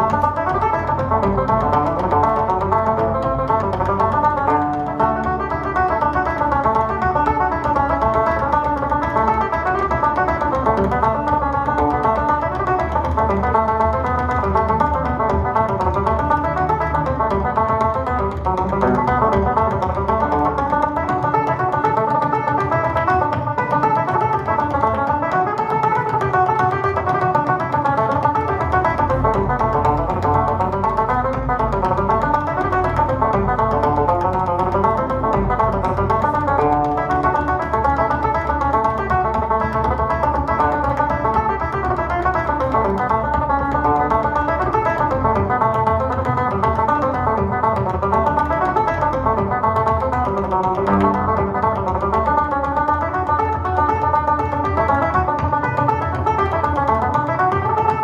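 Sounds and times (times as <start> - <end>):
banjo playing fast reel: 0.0 - 58.0.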